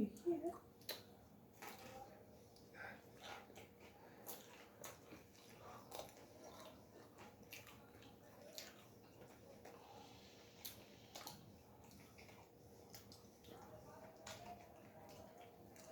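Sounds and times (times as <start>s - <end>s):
chewing with wet mouth smacks: 0.5s - 15.9s.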